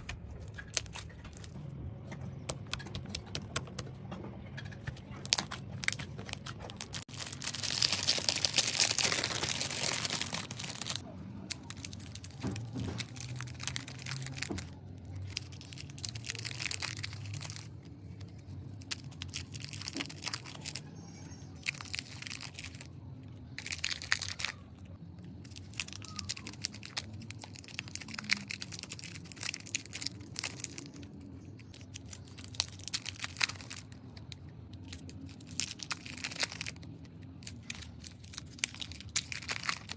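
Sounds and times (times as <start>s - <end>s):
slime crackling and popping: 5.2s - 39.9s.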